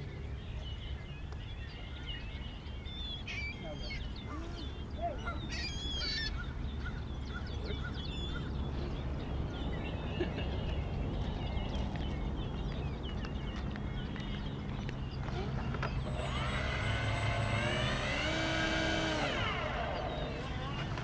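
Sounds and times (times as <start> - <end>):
steady low rumble: 0.0 - 21.0
waterbirds calling: 0.0 - 21.0.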